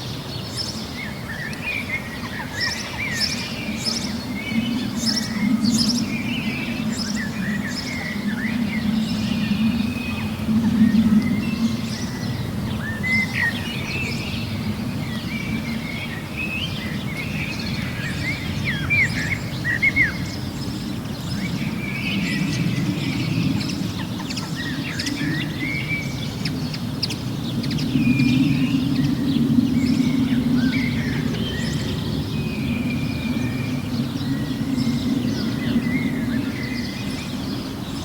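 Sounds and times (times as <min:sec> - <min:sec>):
small birds chirping and singing: 0:00.0 - 0:38.0
steady low rumble: 0:03.2 - 0:37.2.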